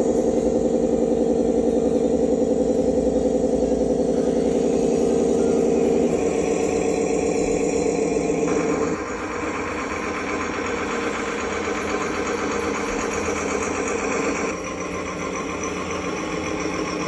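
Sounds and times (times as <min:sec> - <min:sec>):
electric motors and gearboxes whirring: 0:00.0 - 0:17.0.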